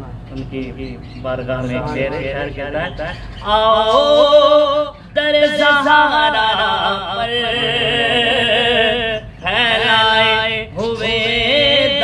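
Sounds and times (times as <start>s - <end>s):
man singing unaccompanied: 0.4s - 12.0s.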